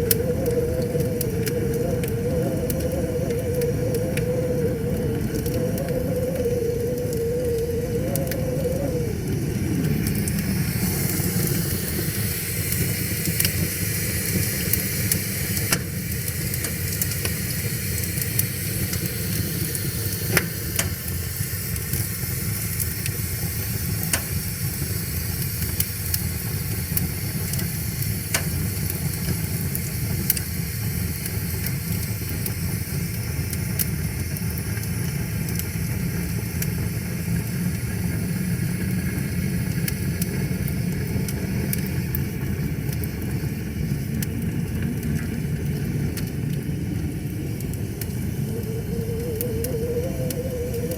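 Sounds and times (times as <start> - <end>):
wood fire crackling and hissing: 0.0 - 50.9.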